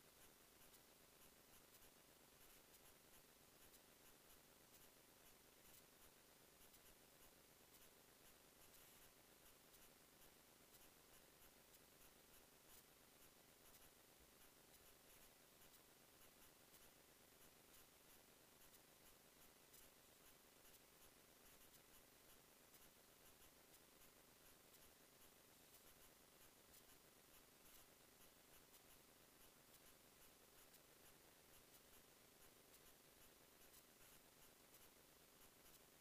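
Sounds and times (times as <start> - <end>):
faint irregular ticks: 0.0 - 36.0
faint steady hiss: 0.0 - 36.0.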